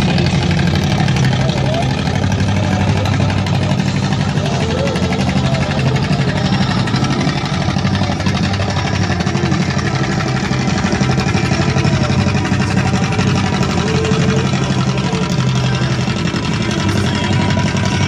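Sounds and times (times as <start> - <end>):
tractor engine running under load: 0.0 - 18.0.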